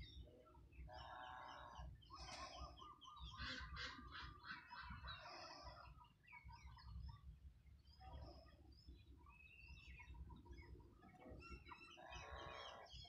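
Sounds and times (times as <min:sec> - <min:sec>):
chickens clucking and cheeping: 0:00.0 - 0:13.0.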